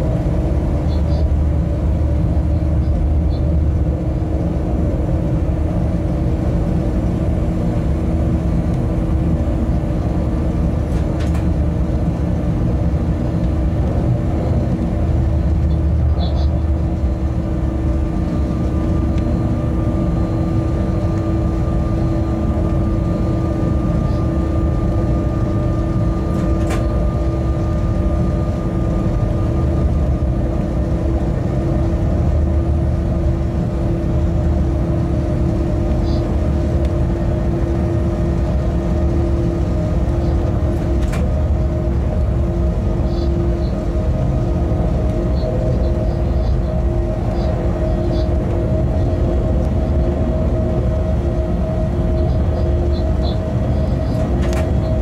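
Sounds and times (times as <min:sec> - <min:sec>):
locomotive running rumble: 0:00.0 - 0:55.0.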